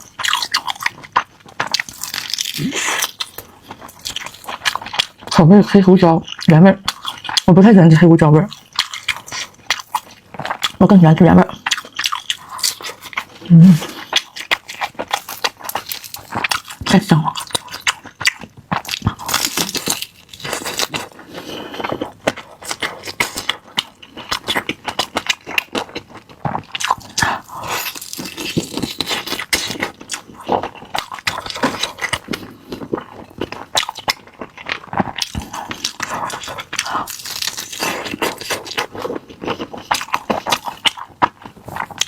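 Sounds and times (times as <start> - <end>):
crunchy chicken skin chewing: 0.0 - 5.4, 6.3 - 7.5, 8.5 - 10.8, 11.6 - 42.0.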